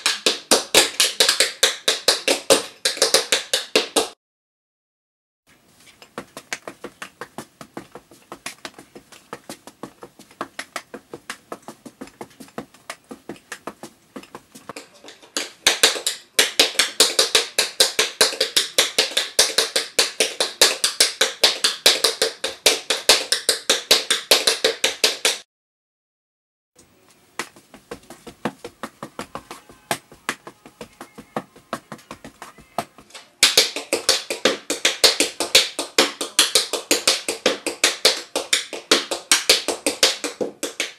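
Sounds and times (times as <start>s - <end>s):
tap shoes on wooden floor: 0.0s - 4.2s, 6.0s - 25.4s, 27.2s - 40.9s.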